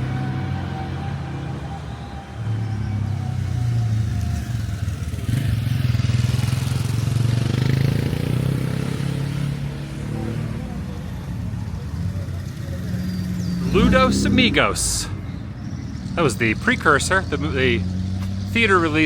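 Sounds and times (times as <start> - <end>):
vehicle engine running: 2.0 - 19.0.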